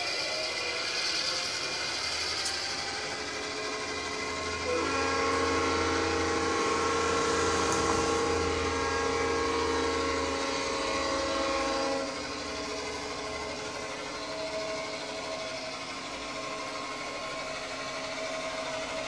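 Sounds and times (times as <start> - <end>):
diesel engine sound: 0.0 - 19.0
model locomotive diesel horn: 0.0 - 19.0.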